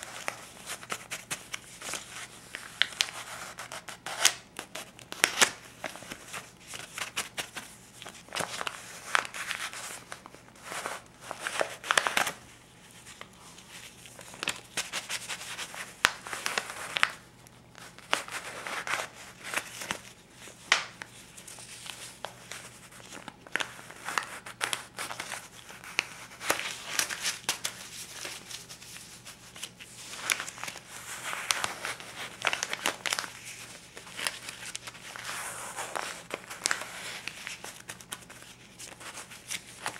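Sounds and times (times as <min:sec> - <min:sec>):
paper bills crinkling: 0:00.0 - 0:12.4, 0:13.0 - 0:17.2, 0:17.8 - 0:39.9.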